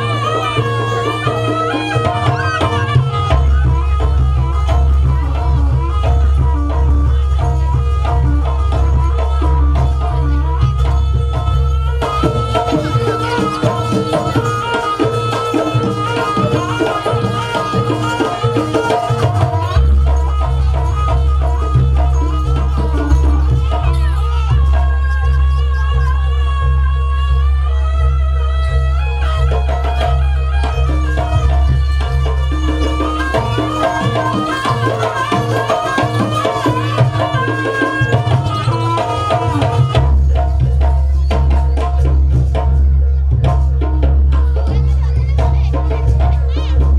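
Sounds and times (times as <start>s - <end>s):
hand drums playing busy rhythm: 0.0s - 46.9s
wavering melody line: 0.0s - 46.9s.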